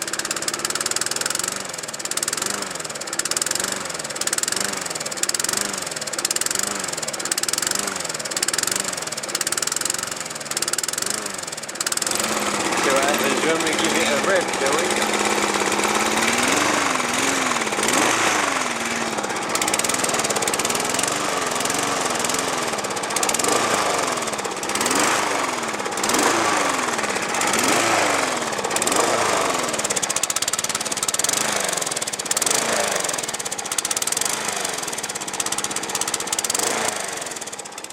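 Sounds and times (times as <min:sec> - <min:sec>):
small engine surging: 0:00.0 - 0:37.9.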